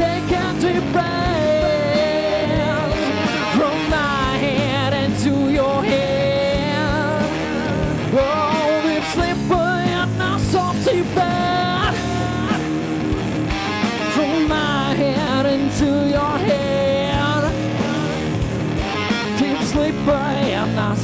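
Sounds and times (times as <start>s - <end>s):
funk rock band playing: 0.0s - 21.0s.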